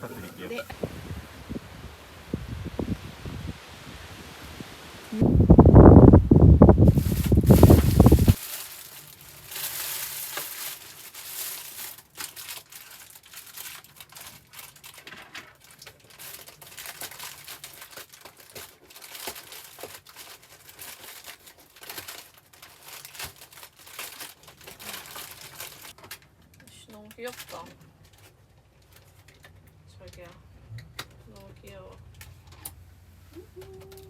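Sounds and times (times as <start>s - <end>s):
crinkling and rustling: 6.6s - 34.0s.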